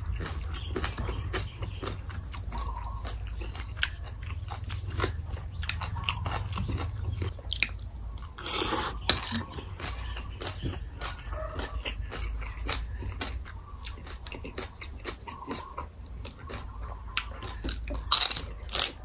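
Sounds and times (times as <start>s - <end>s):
chewing crisp food: 0.0s - 19.0s
steady low hum: 0.0s - 19.0s.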